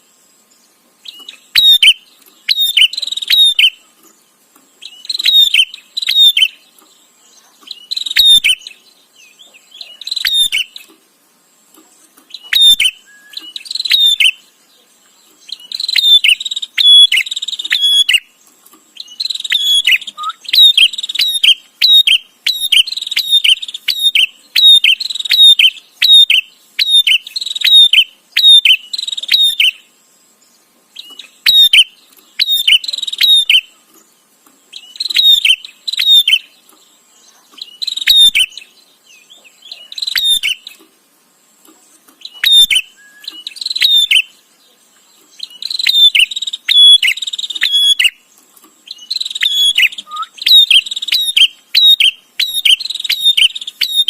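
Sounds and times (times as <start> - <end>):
bird chirping in rapid bursts: 0.0 - 11.0, 11.9 - 40.8, 42.1 - 54.0.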